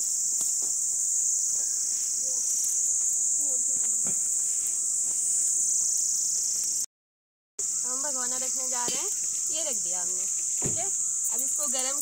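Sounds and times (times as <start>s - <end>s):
high-pitched insect chorus: 0.0s - 6.9s, 7.6s - 12.0s.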